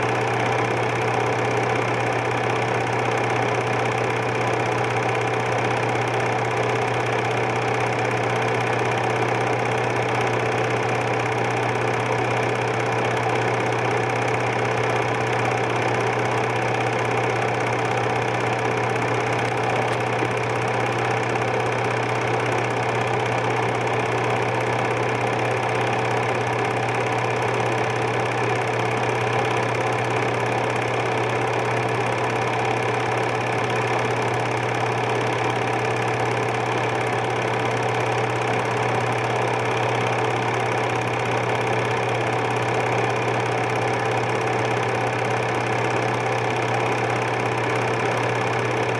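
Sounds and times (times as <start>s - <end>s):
film projector running: 0.0s - 48.9s.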